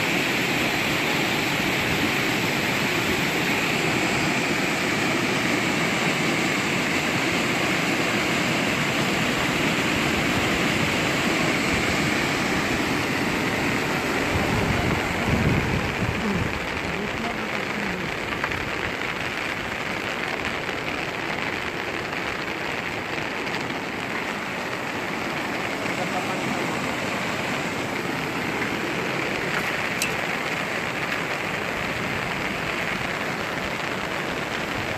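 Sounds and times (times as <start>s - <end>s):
rain falling steadily: 0.0s - 34.9s.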